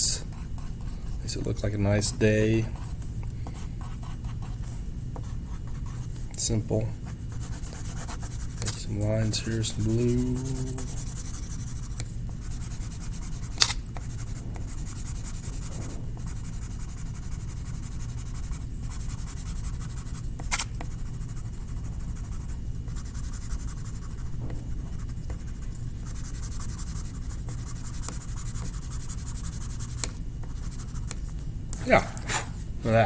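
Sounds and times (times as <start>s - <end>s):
drawing tool scratching paper: 0.3s - 1.2s, 3.5s - 6.1s, 7.1s - 31.2s.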